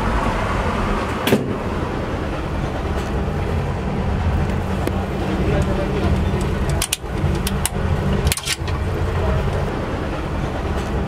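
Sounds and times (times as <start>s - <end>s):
rail car rumble: 0.0s - 11.0s.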